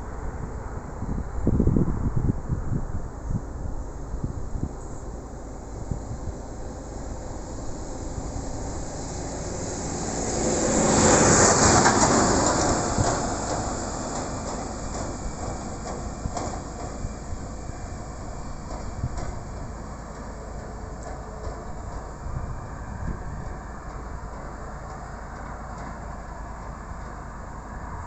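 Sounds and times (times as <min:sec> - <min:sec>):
fire engine driving past: 0:00.0 - 0:28.0.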